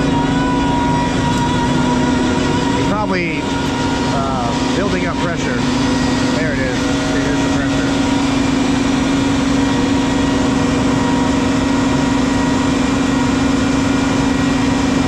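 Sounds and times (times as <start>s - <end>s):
machine low hum: 0.0s - 15.0s.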